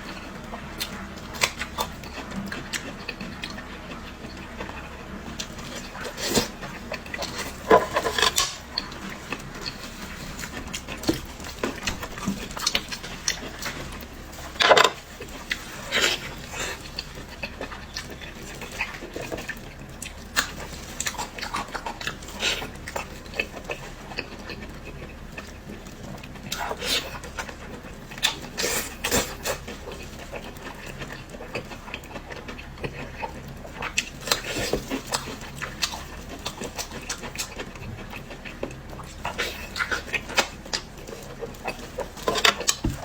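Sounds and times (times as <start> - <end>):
person chewing with wet mouth noises: 0.0 - 43.0.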